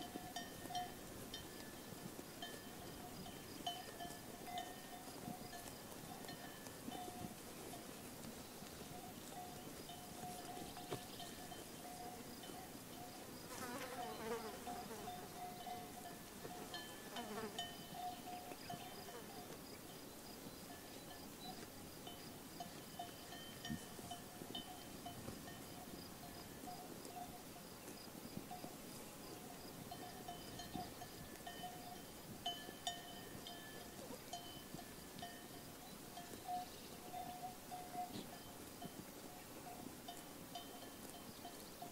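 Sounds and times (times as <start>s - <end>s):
light tinkling: 0.0s - 41.9s.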